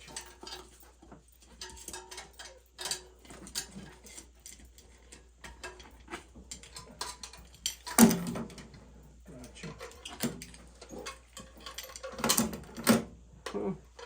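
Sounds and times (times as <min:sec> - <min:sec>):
metal tools clicking and tapping: 0:00.0 - 0:08.8, 0:09.4 - 0:14.0.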